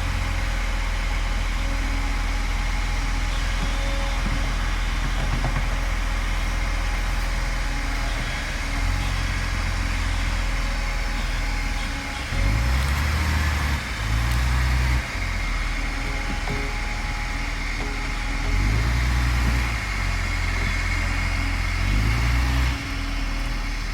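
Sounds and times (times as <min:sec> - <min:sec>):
heavy diesel machinery engine: 0:00.0 - 0:23.9.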